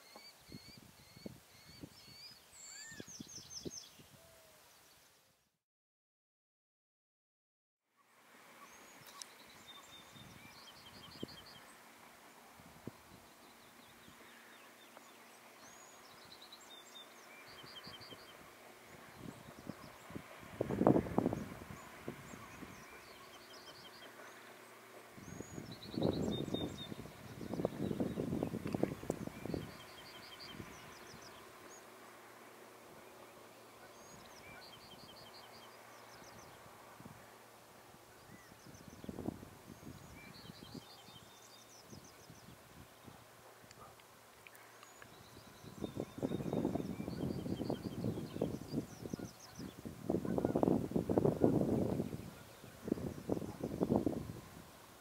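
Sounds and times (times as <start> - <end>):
bird chirping: 0.0 - 5.0, 8.6 - 11.8, 13.1 - 32.1, 33.0 - 36.7, 38.1 - 54.0.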